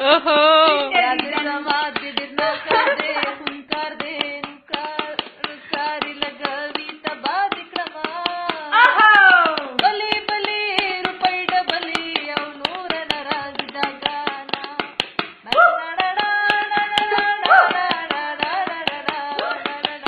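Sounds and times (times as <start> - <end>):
woman singing: 0.0 - 20.0
rhythmic handclapping: 0.1 - 20.0.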